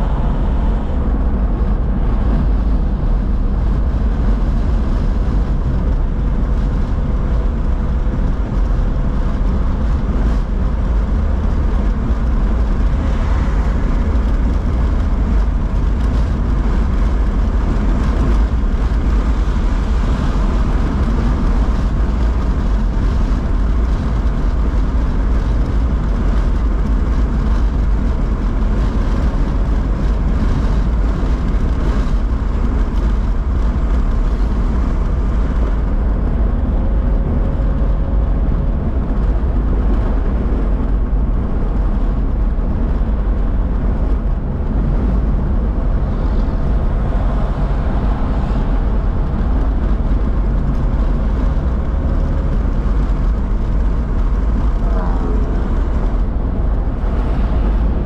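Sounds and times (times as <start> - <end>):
car engine and tyres on wet road: 0.0 - 58.0.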